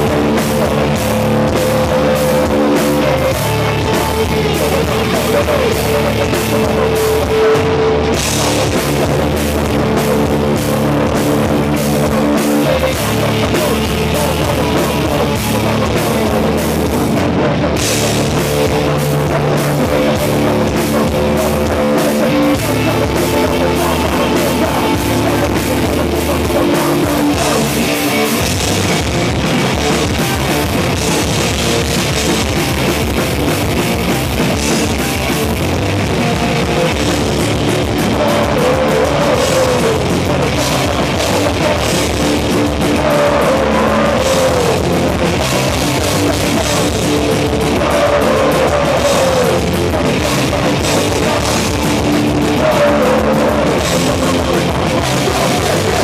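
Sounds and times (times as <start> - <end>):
bass guitar: 0.0 - 56.0
distorted electric guitars: 0.0 - 56.0
rapid drum beats: 0.0 - 56.0.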